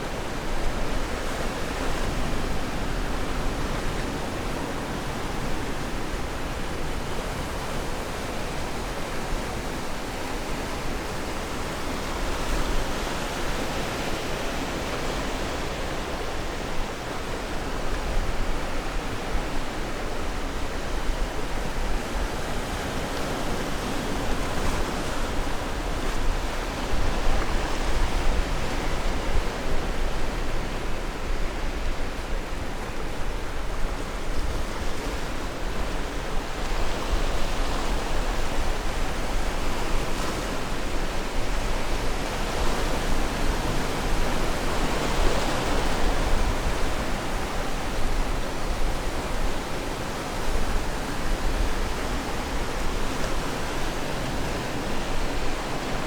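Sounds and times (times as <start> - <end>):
surf waves washing ashore: 0.0 - 56.0.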